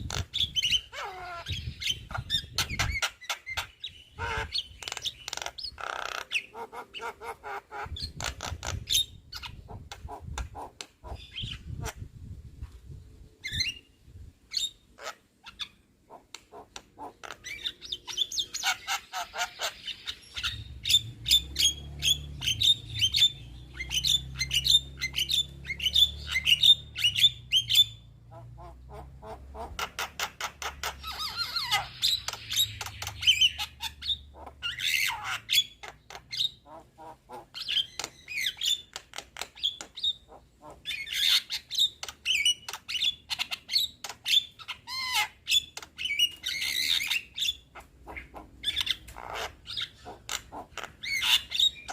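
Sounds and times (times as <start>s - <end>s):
myna chattering and squawking: 0.0s - 12.1s, 15.0s - 38.5s, 39.2s - 51.9s.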